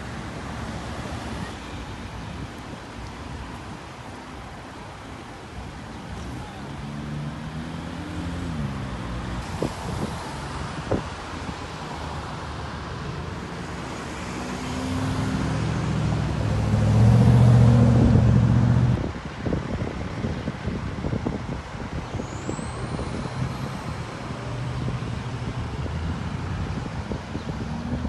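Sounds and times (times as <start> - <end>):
cars passing: 0.0 - 28.0.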